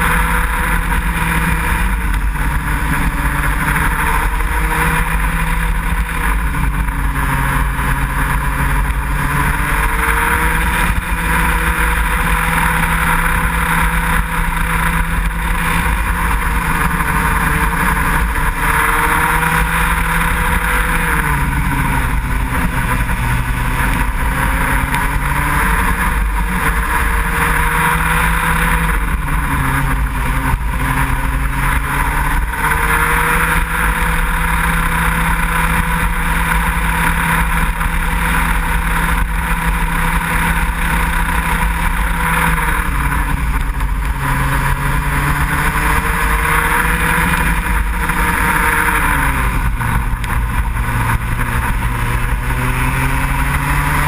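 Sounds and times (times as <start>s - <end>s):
go-kart engine: 0.0s - 54.0s.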